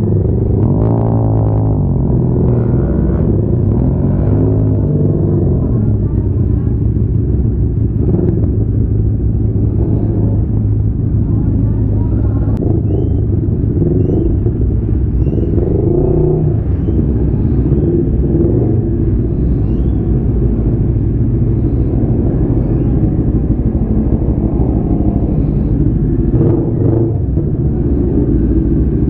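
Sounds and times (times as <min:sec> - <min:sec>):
motorcycle engine rumble: 0:00.0 - 0:29.0
wind: 0:00.0 - 0:29.0.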